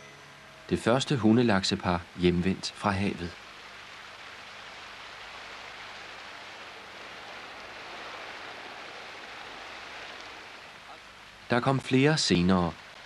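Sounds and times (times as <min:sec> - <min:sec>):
creek water flowing over gravel: 0:00.7 - 0:13.0.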